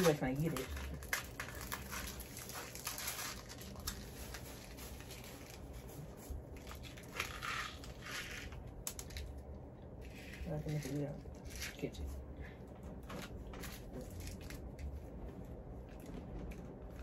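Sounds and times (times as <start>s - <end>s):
plastic film crinkling and tearing: 0.0s - 12.2s, 13.0s - 15.0s.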